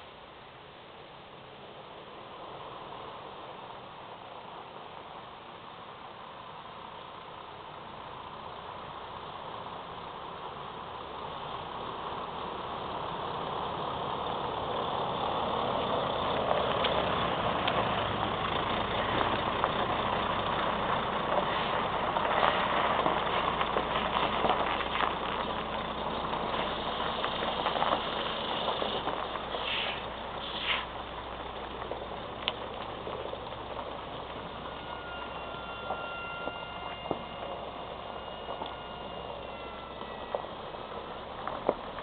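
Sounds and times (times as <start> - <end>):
truck engine running: 2.1 - 42.0.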